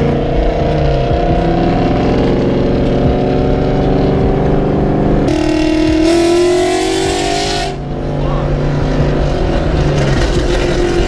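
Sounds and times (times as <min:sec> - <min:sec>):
deeper engine note climbing: 0:00.0 - 0:11.0
loud car engine running: 0:00.0 - 0:11.0.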